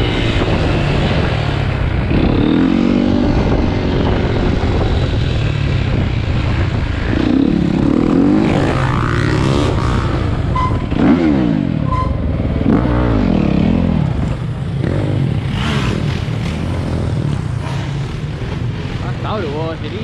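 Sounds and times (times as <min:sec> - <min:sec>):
dirt bike engines revving past: 0:00.0 - 0:20.0.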